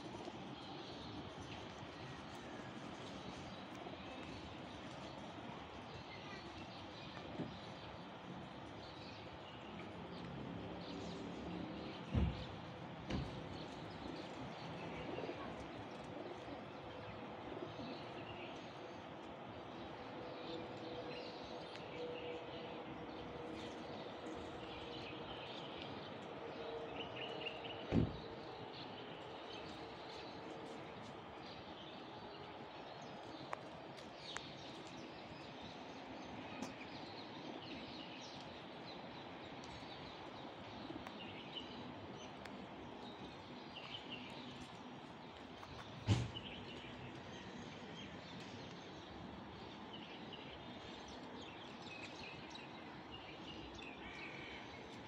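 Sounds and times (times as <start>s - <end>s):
sparrows chirping: 0.2s - 55.0s.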